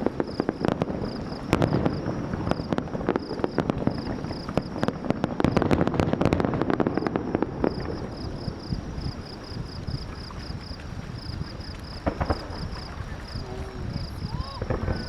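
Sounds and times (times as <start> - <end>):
fireworks crackling: 0.0 - 15.0
insects chirping: 0.0 - 15.0.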